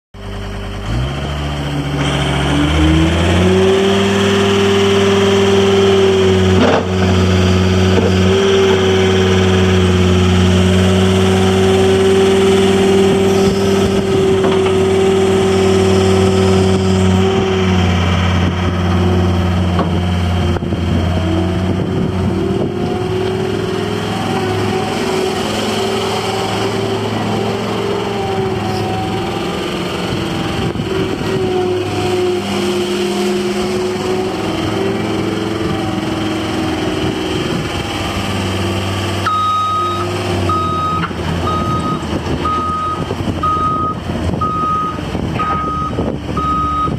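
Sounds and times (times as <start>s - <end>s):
diesel loader engine running: 0.2s - 46.9s.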